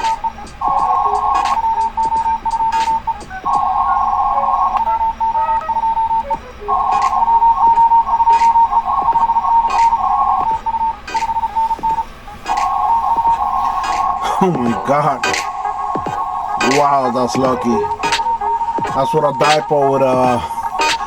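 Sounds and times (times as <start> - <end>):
morse code tone: 0.0 - 21.0
receiver noise: 0.0 - 21.0.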